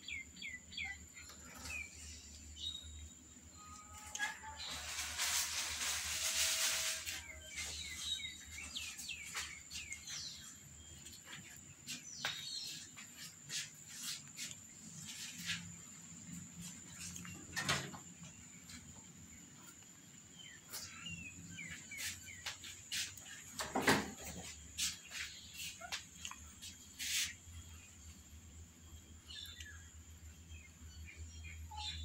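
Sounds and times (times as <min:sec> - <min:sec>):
small birds chirping: 0:00.0 - 0:03.5, 0:07.1 - 0:32.0.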